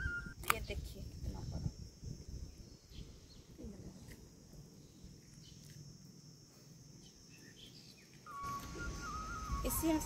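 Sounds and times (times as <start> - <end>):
high insect hum: 0.0 - 10.0.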